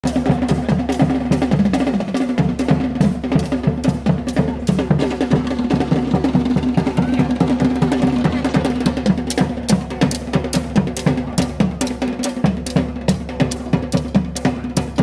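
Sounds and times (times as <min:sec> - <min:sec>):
deep drum beat: 0:00.0 - 0:15.0
fast sharp drum strokes: 0:00.0 - 0:15.0.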